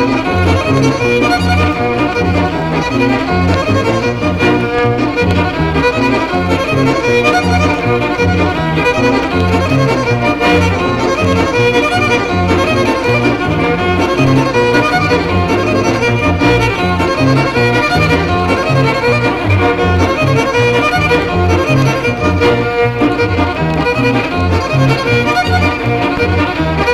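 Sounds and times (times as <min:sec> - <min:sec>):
fiddle tune: 0:00.0 - 0:26.9
folk dance band playing: 0:00.0 - 0:26.9.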